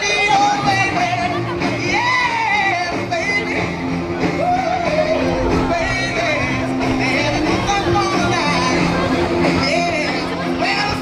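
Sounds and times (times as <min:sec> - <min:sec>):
rock-style pop song with singer: 0:00.0 - 0:11.0.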